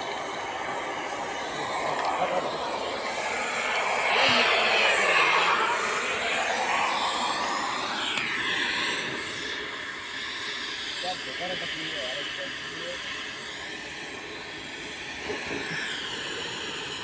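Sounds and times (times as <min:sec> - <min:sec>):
gas hissing from hose: 0:00.0 - 0:17.0.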